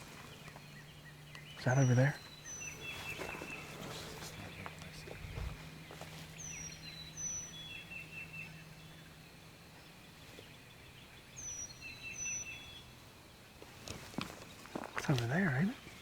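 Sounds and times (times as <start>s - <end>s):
faint low hum: 0.0s - 16.0s
songbird singing: 0.0s - 16.0s.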